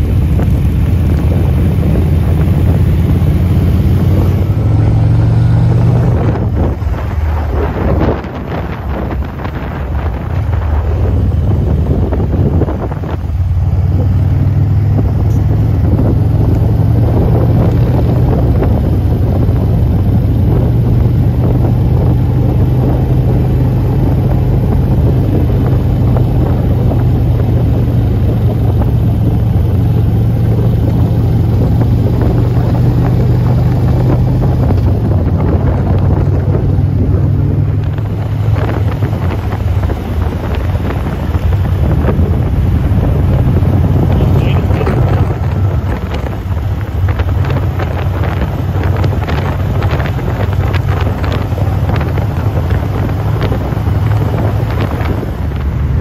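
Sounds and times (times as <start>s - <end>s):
motorcycle engines passing: 0.0s - 56.0s
wind buffeting microphone: 0.0s - 56.0s.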